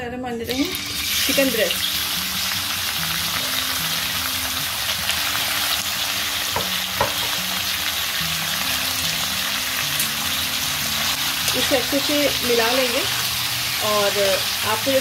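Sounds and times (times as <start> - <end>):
chicken sizzling in oil: 0.5 - 15.0.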